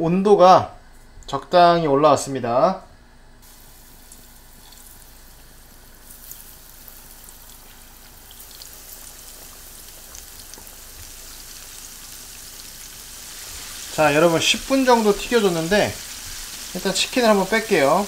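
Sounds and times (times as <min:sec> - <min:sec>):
chicken deep-frying in oil: 0:03.4 - 0:18.0
oil crackling: 0:03.4 - 0:18.0.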